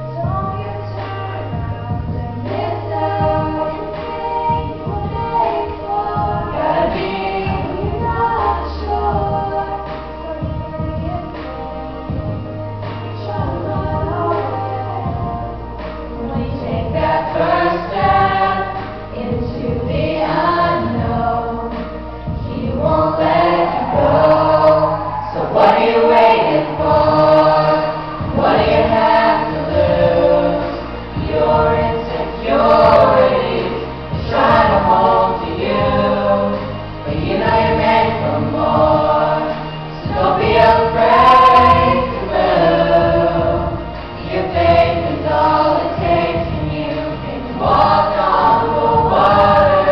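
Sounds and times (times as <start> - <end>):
vocal ensemble singing in harmony: 0.0 - 49.9.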